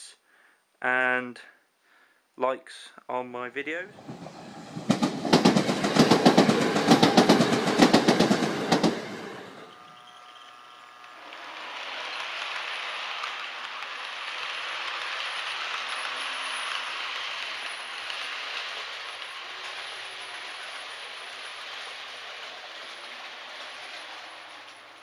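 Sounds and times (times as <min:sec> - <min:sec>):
model train wheels on rails: 0:03.8 - 0:25.0.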